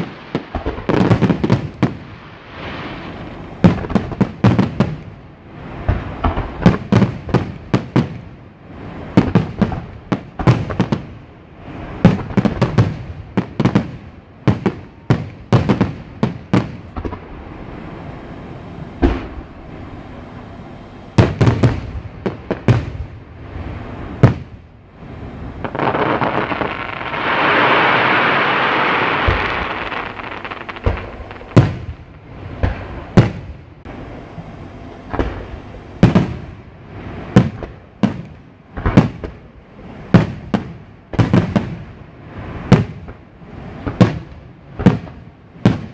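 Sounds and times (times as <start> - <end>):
fireworks bursting with sharp bangs: 0.0 - 45.9
steady hiss: 0.0 - 45.9.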